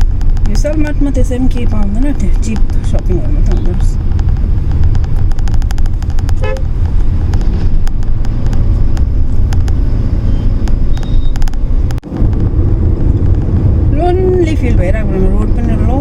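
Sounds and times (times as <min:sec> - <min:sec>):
crackling clicks: 0:00.0 - 0:12.5, 0:13.1 - 0:13.6
vehicle road noise rumble: 0:00.0 - 0:16.0.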